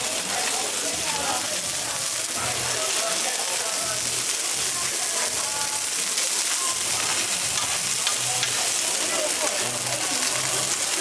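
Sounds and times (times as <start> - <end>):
burgers and onions sizzling on griddle: 0.0 - 11.0.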